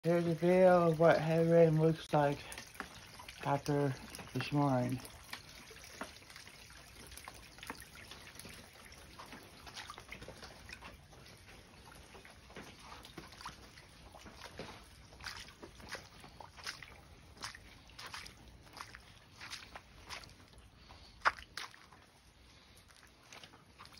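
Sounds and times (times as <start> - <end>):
rainwater trickling over gravel: 0.0 - 23.9
footsteps on wet pavement: 0.1 - 23.9.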